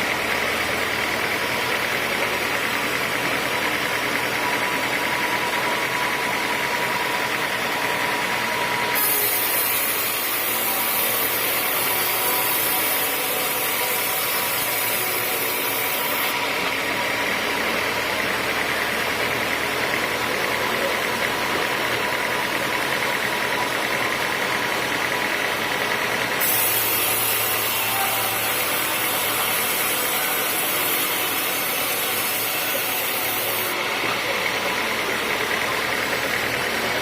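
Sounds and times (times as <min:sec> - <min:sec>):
sawmill engine running: 0:00.0 - 0:37.0.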